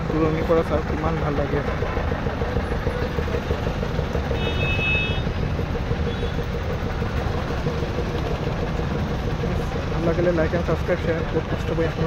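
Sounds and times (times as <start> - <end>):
low rumble of vehicle engines: 0.0 - 12.0.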